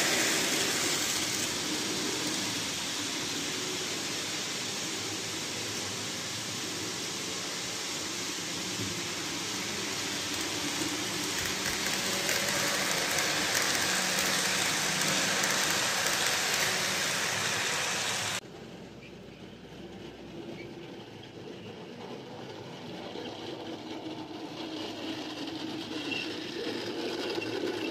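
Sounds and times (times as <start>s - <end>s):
model train running on track: 0.0s - 27.9s.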